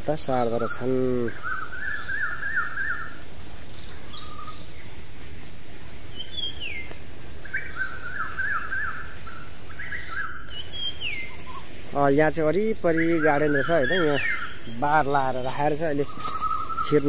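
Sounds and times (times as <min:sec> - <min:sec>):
songbird warbling song: 0:00.0 - 0:17.0.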